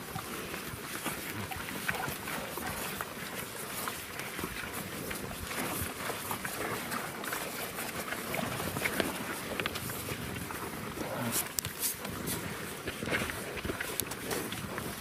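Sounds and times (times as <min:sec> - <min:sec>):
cattle licking and shuffling: 0:00.0 - 0:15.0.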